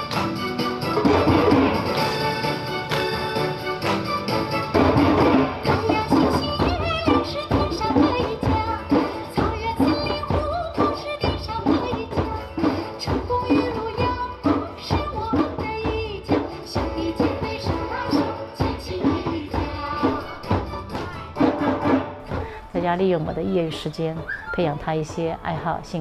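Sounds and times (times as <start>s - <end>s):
hand drums playing: 0.0s - 25.5s.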